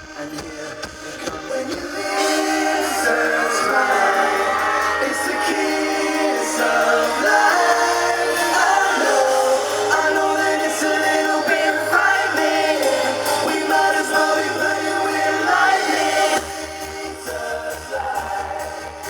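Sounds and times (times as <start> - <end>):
pop music with layered singing: 0.0 - 19.0.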